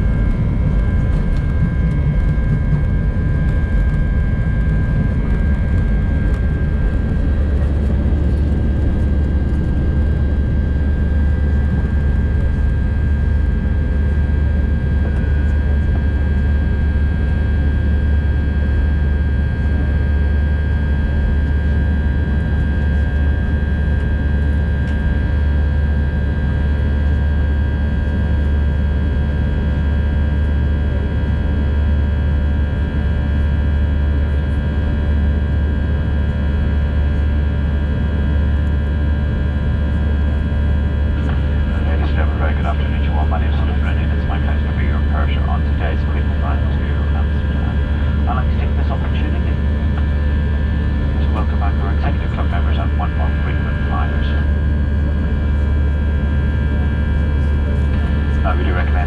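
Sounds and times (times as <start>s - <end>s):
aircraft engine and airflow rumble: 0.0s - 59.0s.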